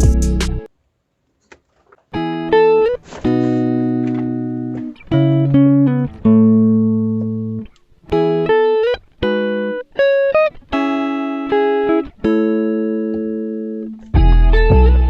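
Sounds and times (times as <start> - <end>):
guitar playing slow chords: 2.2 - 15.0.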